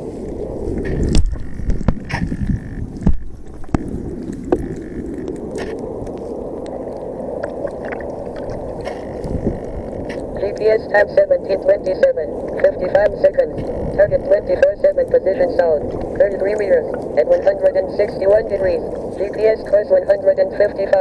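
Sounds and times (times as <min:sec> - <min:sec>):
steady rushing noise: 0:00.0 - 0:21.0
water gurgling and sloshing: 0:00.0 - 0:21.0.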